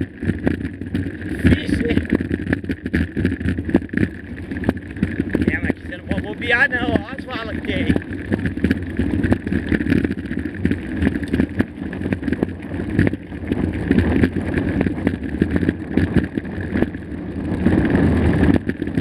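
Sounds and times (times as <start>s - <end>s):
bike rattling with sharp knocks: 0.0s - 19.0s
bike tyres rolling on trail: 0.0s - 19.0s
low rumble: 0.0s - 19.0s.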